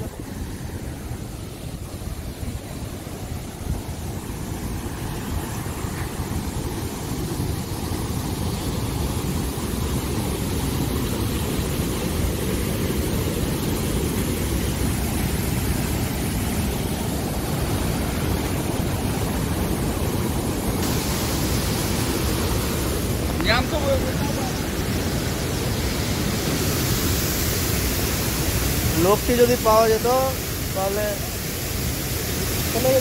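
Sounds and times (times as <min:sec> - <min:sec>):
floodwater rushing over rocks: 0:00.0 - 0:33.0.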